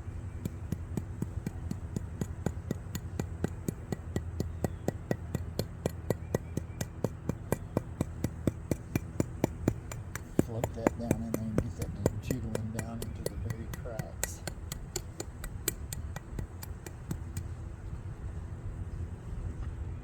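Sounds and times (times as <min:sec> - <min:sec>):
rapid tapping of hand tool: 0:00.0 - 0:17.5
steady low hum: 0:00.0 - 0:20.0.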